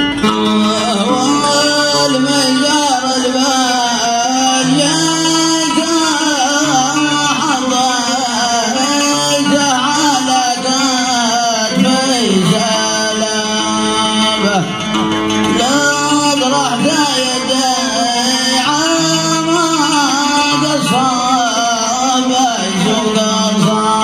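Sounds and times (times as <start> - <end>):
man singing melismatic line: 0.0 - 24.0
oud playing: 0.0 - 24.0.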